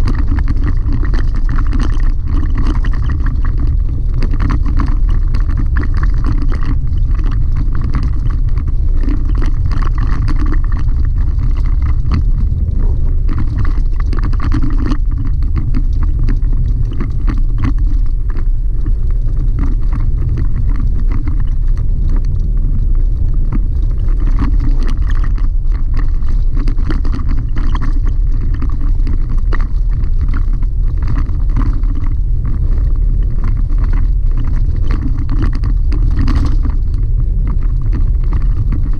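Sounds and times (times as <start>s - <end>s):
gravel ticking: 0.0s - 38.9s
vehicle rumble on gravel road: 0.0s - 38.9s.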